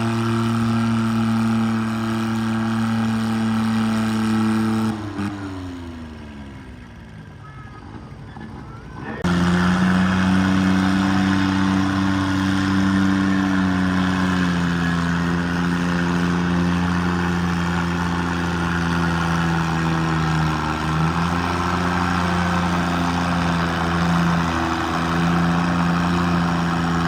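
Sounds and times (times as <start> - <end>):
garden tractor engine running: 0.0 - 27.0.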